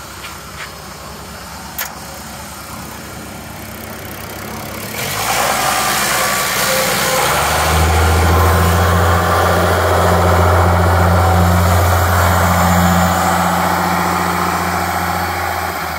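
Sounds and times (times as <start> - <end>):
tractor engine idling: 0.0 - 15.9.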